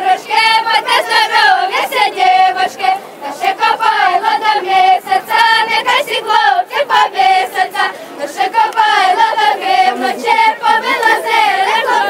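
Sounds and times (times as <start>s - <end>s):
girls singing folk song: 0.0s - 12.0s.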